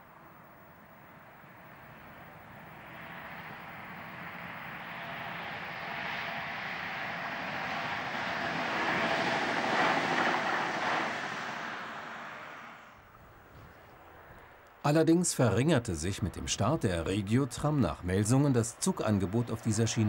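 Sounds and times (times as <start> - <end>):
tram passing on rails: 0.0 - 20.0.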